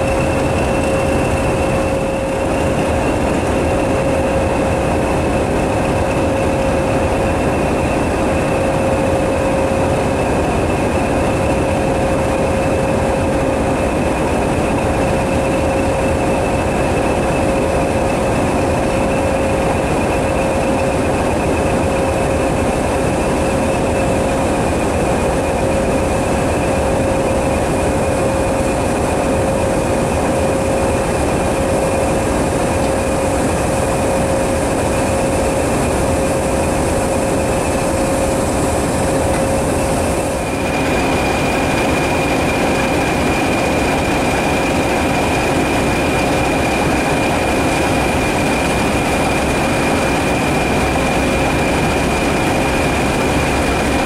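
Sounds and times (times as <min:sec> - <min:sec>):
mechanical drone: 0:00.0 - 0:54.0.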